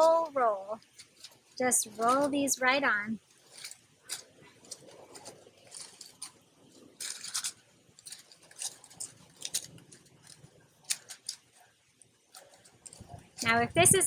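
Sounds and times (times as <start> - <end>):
birdseed rustling and skittering: 0.0 - 13.6.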